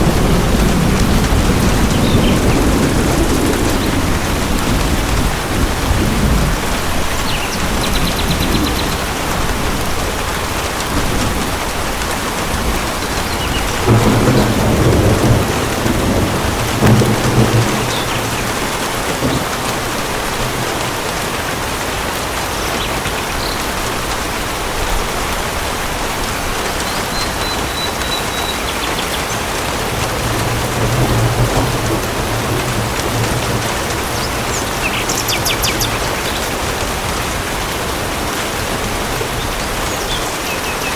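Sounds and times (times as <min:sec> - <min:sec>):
thunder rumbling: 0:00.0 - 0:21.6, 0:26.5 - 0:40.1
heavy rain pattering: 0:00.0 - 0:40.9.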